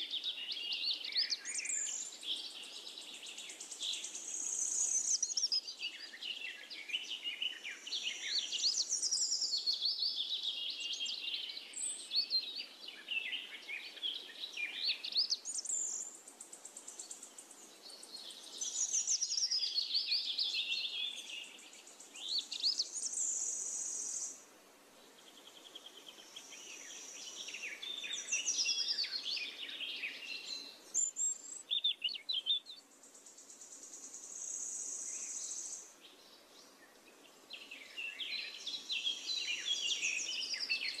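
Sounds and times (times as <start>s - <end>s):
birds chirping and singing: 0.0s - 24.4s, 25.1s - 41.0s.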